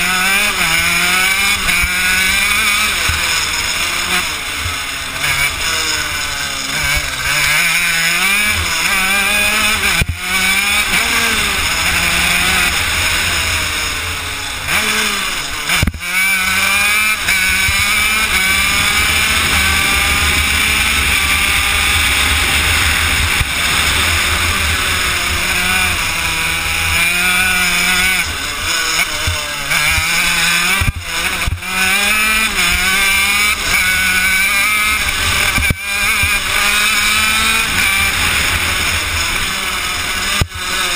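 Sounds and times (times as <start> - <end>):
kart engine revving: 0.0 - 40.9.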